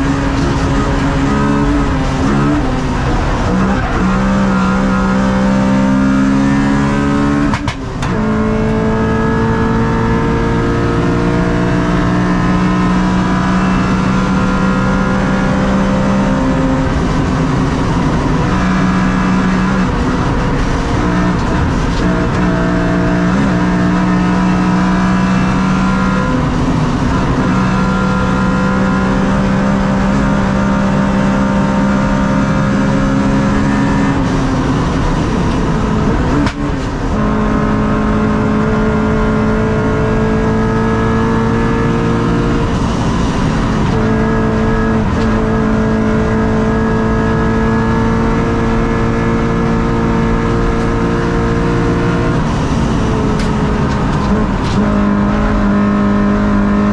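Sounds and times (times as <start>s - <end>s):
car engine at high revs: 0.0s - 56.9s.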